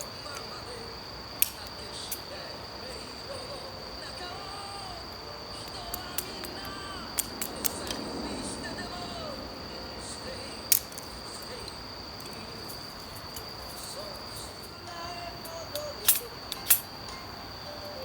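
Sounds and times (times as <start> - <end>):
wood fire snapping: 0.0 - 17.0
high-pitched insect trilling: 0.0 - 18.0.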